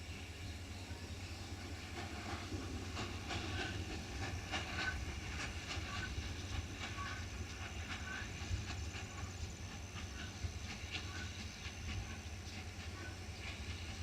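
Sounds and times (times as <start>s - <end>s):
train rumble: 0.0s - 14.0s
train wheels clicking on track: 0.0s - 14.0s.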